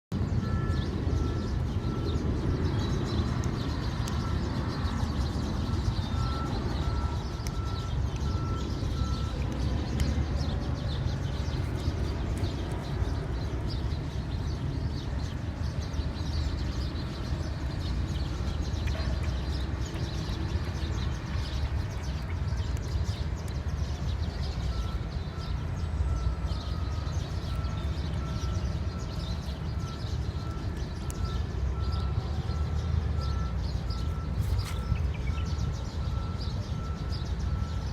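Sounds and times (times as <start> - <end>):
low rumble of vehicle engines: 0.1 - 37.9.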